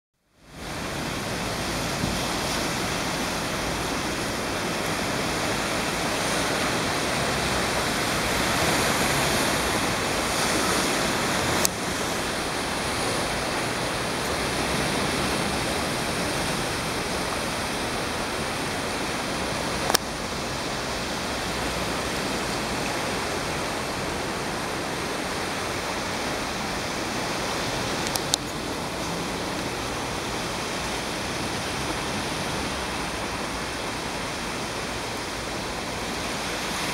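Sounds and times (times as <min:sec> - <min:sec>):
torrential rain and floodwater rushing: 0:00.2 - 0:36.9.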